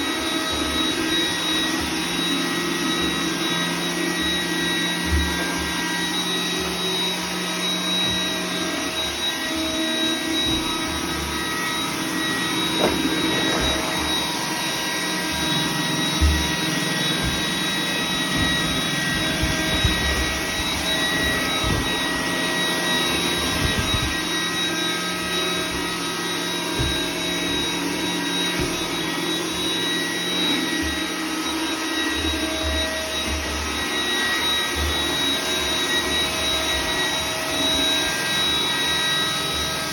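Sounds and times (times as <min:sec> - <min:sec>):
robot vacuum motor whir: 0:00.0 - 0:39.9.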